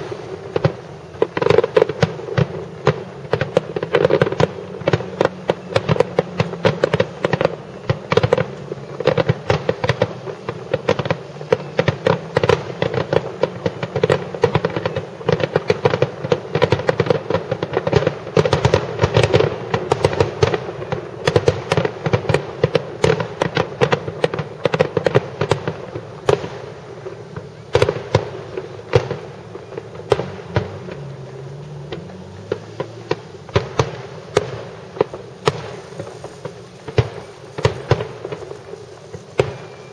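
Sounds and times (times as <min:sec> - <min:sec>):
firework shells bursting: 0:00.0 - 0:39.9.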